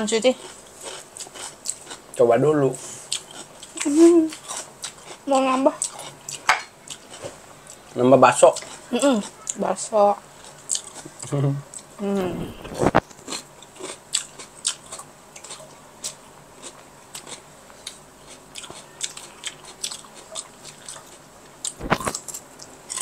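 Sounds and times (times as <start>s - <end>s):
person chewing food: 0.4s - 2.2s, 2.8s - 9.6s, 10.3s - 23.0s.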